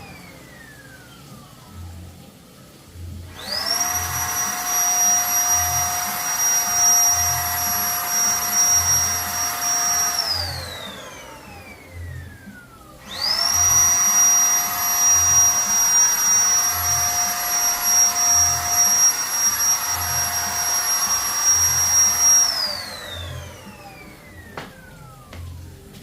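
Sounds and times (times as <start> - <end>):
paint spray gun motor whining: 0.0 - 2.0, 3.2 - 25.8.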